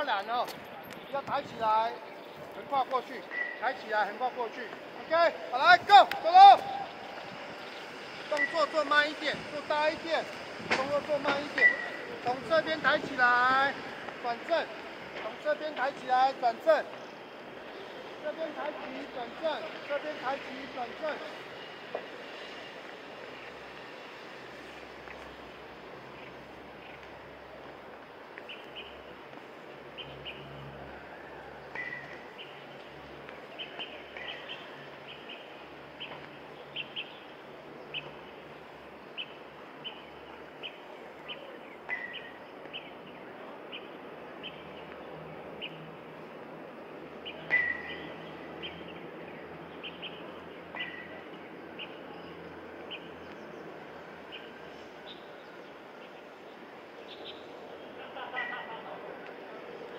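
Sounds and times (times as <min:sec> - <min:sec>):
birds chirping: 0:00.0 - 0:59.9
steady outdoor hiss: 0:00.0 - 0:59.9.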